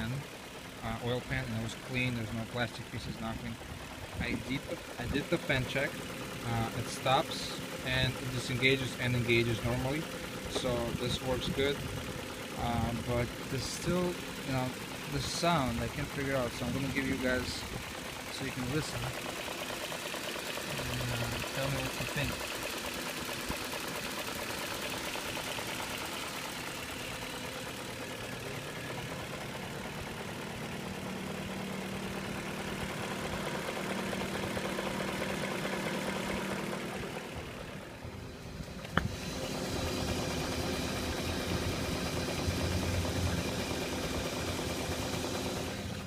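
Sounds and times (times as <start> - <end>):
car engine idling with knocking: 0.0 - 46.0.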